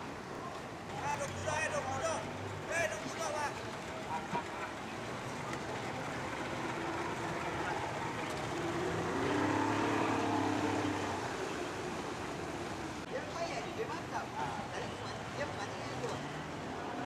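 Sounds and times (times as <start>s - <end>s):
motorboat engines passing: 0.0s - 17.0s.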